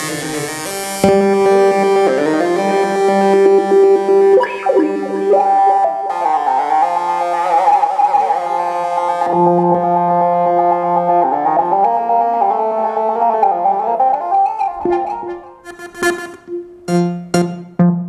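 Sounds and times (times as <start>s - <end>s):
synthesizer playing held chords: 0.0s - 18.0s.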